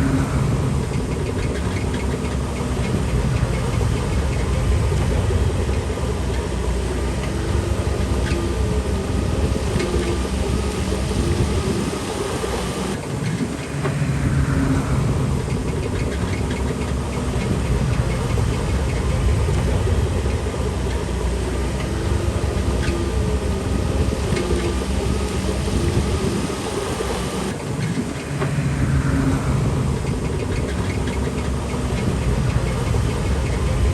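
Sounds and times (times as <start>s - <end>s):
bulldozer diesel engine under load: 0.0s - 13.1s, 13.8s - 33.9s.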